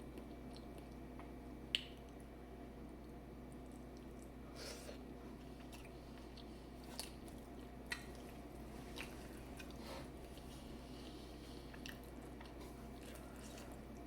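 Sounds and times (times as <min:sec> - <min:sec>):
chewing and wet mouth sounds: 0:00.0 - 0:02.4, 0:03.0 - 0:14.0
steady low hum: 0:00.0 - 0:14.0.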